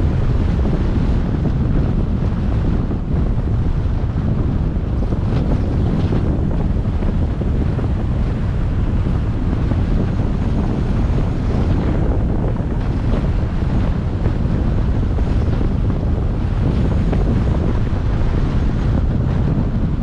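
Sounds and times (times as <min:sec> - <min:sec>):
road and tyre noise: 0:00.0 - 0:20.0
wind noise on microphone: 0:00.0 - 0:20.0.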